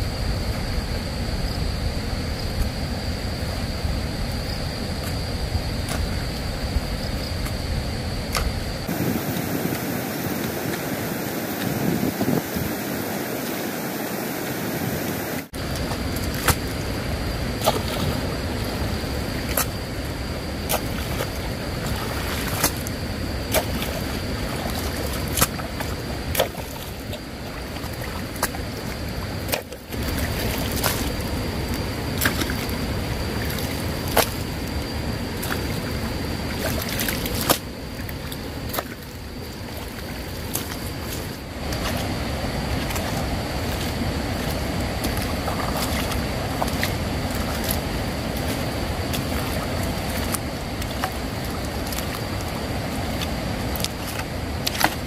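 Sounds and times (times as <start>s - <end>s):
steady rushing noise: 0.0s - 55.0s.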